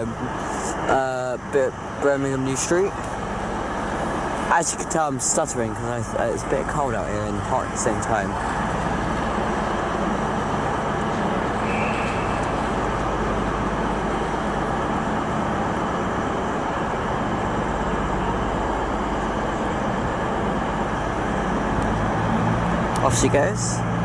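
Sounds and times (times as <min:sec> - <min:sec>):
train diesel engines running: 0:00.0 - 0:24.0.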